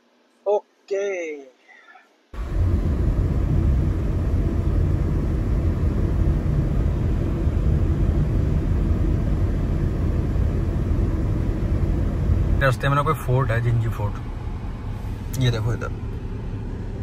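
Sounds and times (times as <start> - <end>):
road and wind noise from moving car: 2.4 - 17.0.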